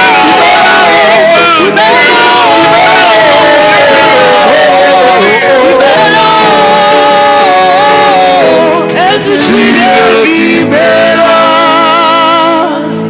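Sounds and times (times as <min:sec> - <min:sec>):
worship music with singing: 0:00.0 - 0:13.0.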